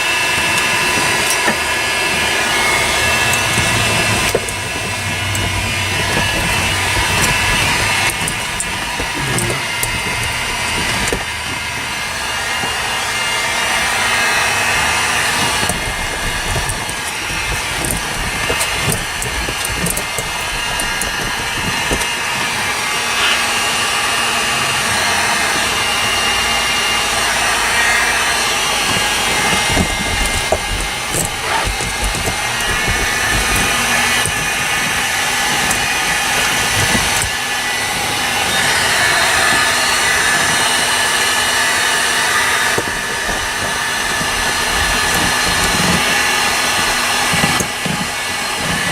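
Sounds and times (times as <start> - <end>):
blower motor noise: 0.0 - 48.9.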